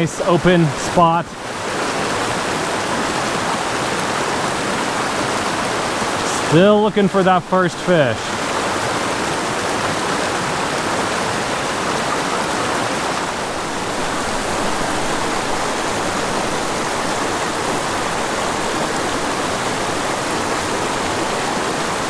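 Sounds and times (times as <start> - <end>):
creek running over rocks: 0.0 - 22.0.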